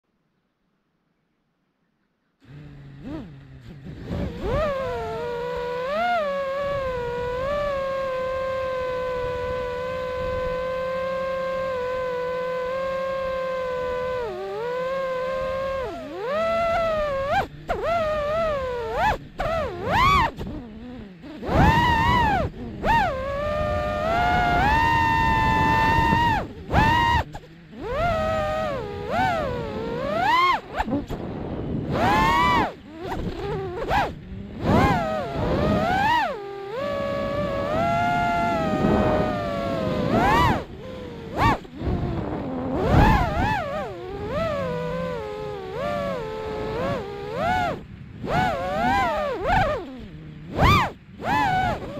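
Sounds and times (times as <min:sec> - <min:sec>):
quadcopter motors whining: 0:02.4 - 0:51.9
rushing propeller noise: 0:02.4 - 0:51.9.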